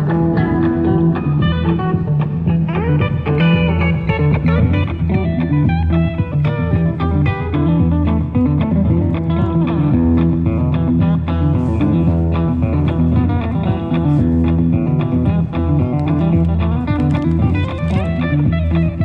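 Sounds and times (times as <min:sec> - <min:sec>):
guitar playing: 0:00.0 - 0:19.0.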